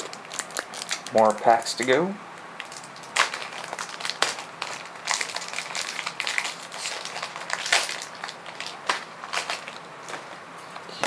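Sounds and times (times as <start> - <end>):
foil wrapper crinkling: 0.0 - 2.0, 2.6 - 11.0.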